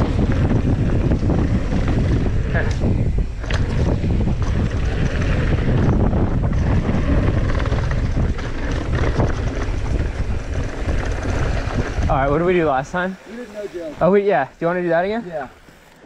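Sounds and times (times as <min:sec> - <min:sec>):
bike rattling and knocking: 0:00.0 - 0:13.1
wind on microphone: 0:00.0 - 0:14.2.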